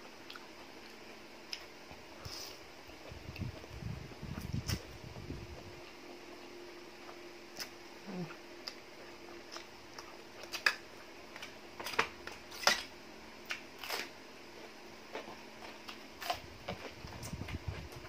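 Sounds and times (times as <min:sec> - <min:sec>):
crunchy lettuce being chewed: 0:00.2 - 0:18.0.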